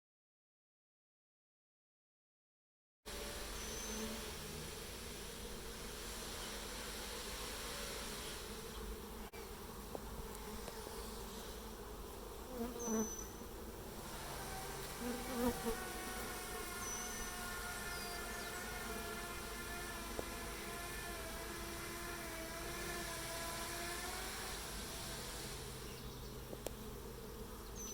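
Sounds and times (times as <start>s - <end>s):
honeybees buzzing: 3.1s - 27.9s.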